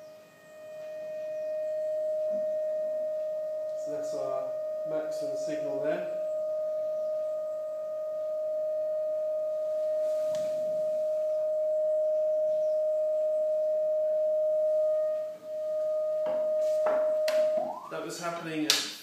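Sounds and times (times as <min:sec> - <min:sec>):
steady pure tone: 0:00.0 - 0:18.7.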